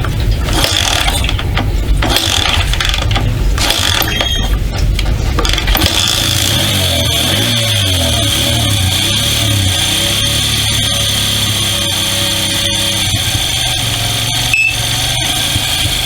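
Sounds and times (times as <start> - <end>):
engine idling: 0.0 - 16.0
engine kick-start clatter: 0.0 - 16.0.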